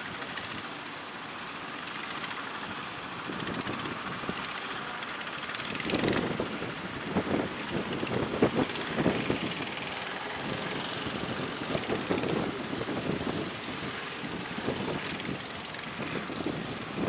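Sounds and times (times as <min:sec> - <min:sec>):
wind gusting on microphone: 0:02.2 - 0:17.0.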